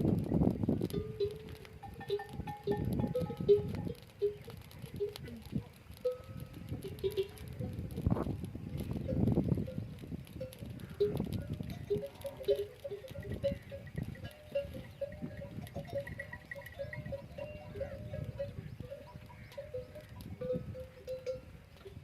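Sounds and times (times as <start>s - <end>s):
wind rumbling on microphone: 0.0s - 22.0s
animal bells clinking: 0.3s - 22.0s.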